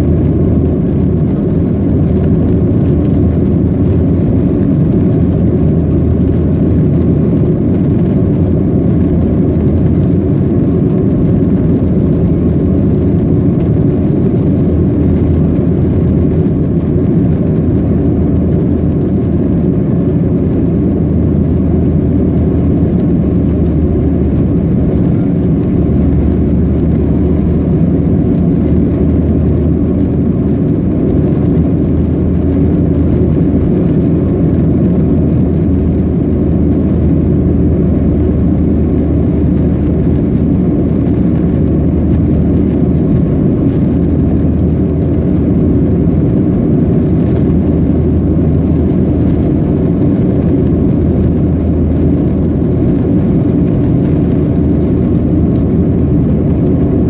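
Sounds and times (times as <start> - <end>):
jet engines droning in cabin: 0.0 - 57.0.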